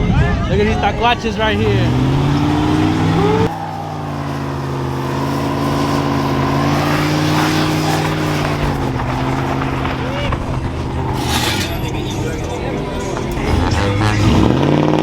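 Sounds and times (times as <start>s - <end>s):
truck engine running: 0.5s - 15.0s.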